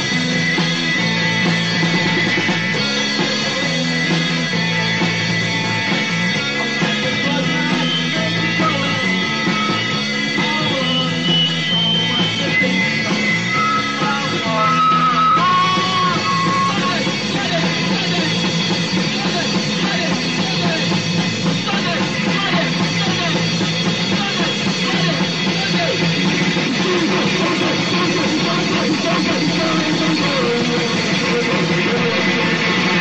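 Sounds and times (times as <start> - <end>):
bass guitar: 0.0 - 33.0
distorted guitars: 0.0 - 33.0
drums: 0.0 - 33.0.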